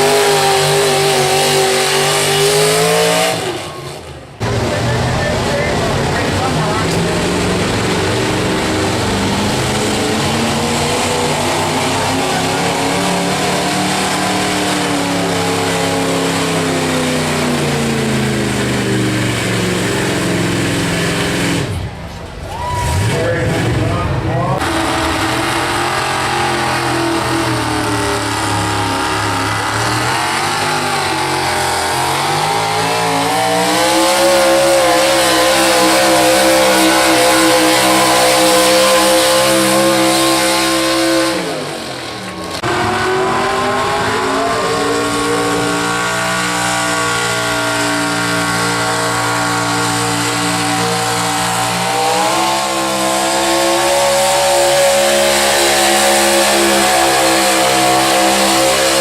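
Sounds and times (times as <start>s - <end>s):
truck engine at high revs: 0.0s - 59.0s.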